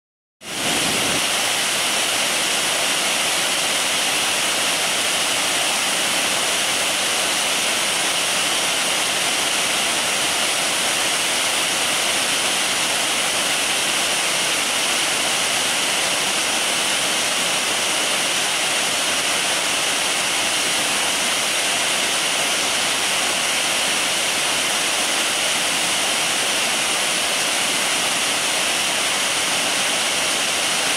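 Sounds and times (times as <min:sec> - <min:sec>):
waterfall rushing: 0:00.5 - 0:30.9.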